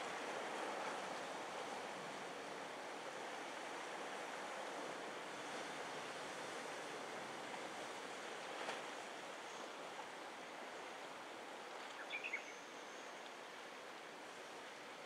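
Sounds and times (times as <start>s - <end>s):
surf washing over rocks: 0.0s - 12.2s.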